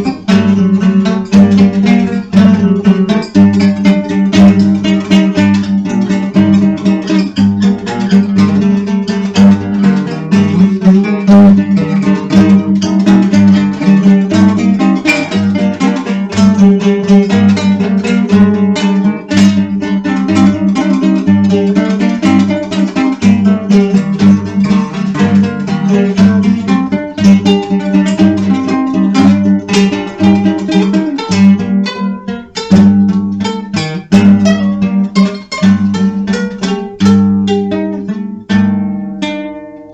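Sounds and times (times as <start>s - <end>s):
acoustic guitar music: 0.0s - 39.9s.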